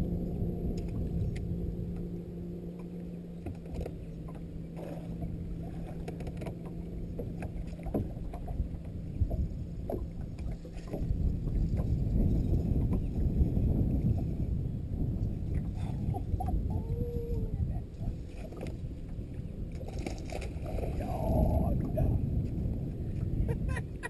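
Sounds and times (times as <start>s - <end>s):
water and wind noise: 0.0s - 24.0s.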